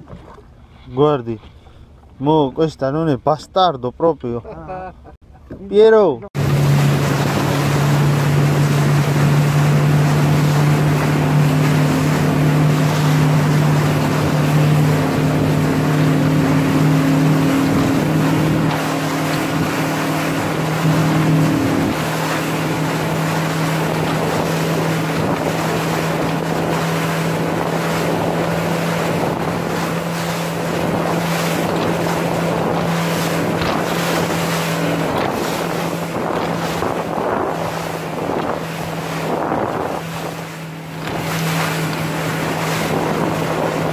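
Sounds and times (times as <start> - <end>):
motorboat engine droning: 0.0 - 43.9
water noise: 0.0 - 43.9
wind on microphone: 6.4 - 43.9.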